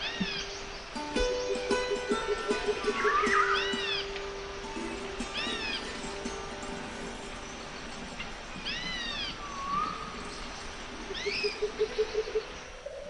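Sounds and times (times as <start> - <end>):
faint background music: 0.0 - 12.8
high arching animal calls: 1.8 - 13.0.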